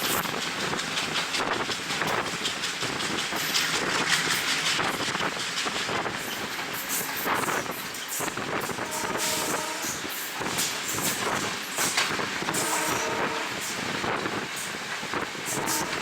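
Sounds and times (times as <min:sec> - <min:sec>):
train rushing at speed: 0:00.0 - 0:16.0
wind buffeting microphone: 0:00.0 - 0:16.0.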